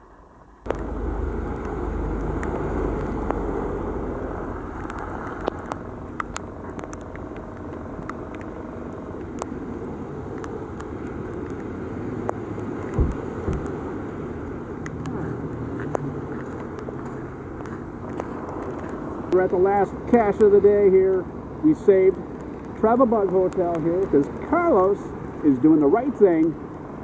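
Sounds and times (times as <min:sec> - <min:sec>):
car road noise: 0:00.0 - 0:27.0.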